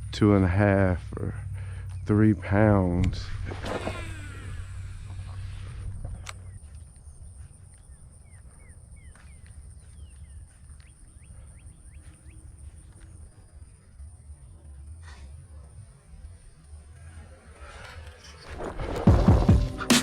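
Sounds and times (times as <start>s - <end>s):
low wind rumble: 0.0s - 19.9s
birds chirping: 0.0s - 20.0s
high-pitched insect drone: 2.2s - 19.5s.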